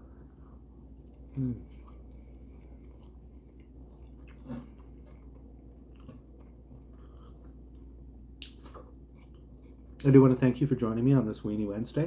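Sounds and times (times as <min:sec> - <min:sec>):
person chewing food: 0:00.0 - 0:10.1.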